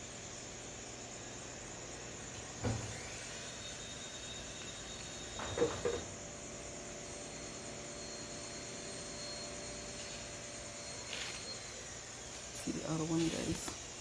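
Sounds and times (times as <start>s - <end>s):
night insects chirring: 0.0s - 14.0s.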